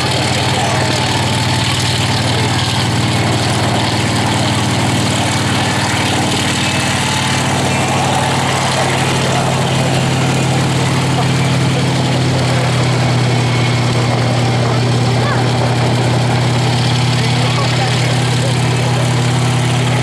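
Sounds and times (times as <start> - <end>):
helicopter rotor and engine drone: 0.0 - 20.0.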